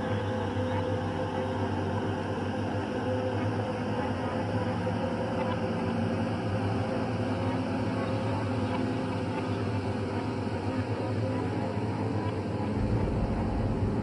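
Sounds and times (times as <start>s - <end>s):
low droning hum: 0.0s - 14.0s.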